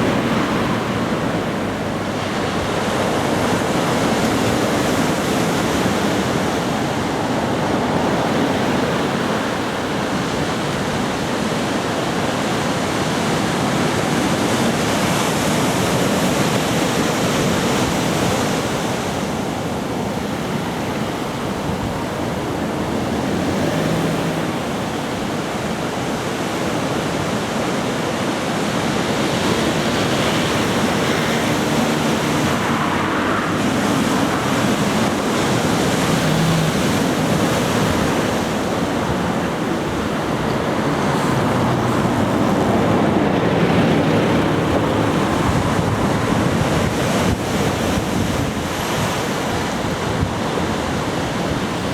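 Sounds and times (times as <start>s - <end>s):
ocean surf breaking: 0.0s - 51.9s.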